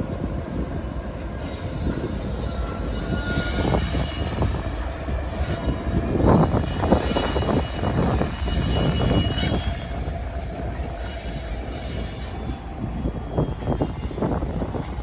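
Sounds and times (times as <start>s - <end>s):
train knocks and clanks: 0.0s - 15.0s
train rolling on rails: 0.0s - 15.0s
high wheel squeal: 1.3s - 14.8s.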